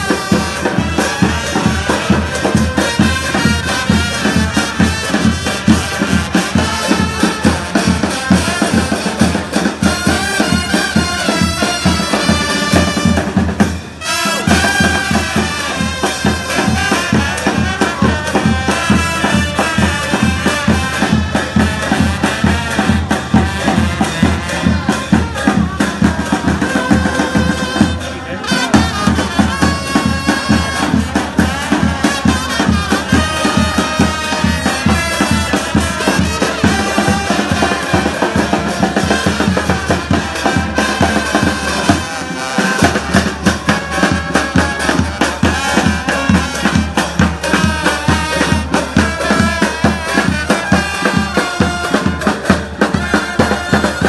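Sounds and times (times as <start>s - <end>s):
festive brass band music: 0.0s - 54.0s.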